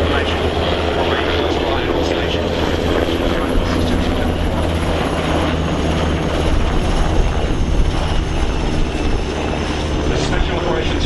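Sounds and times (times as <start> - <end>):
helicopters flying: 0.0 - 11.0.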